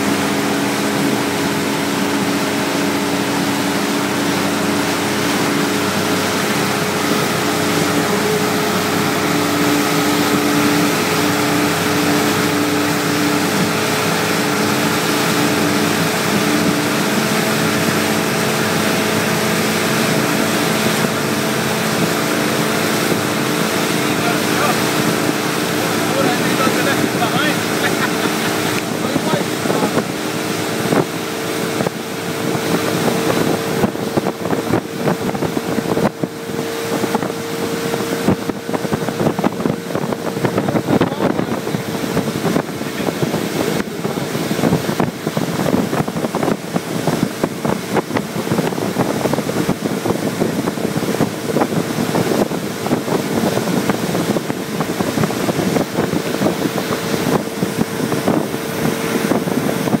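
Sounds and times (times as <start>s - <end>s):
motorboat engine running: 0.0s - 60.0s
wind buffeting microphone: 0.0s - 60.0s.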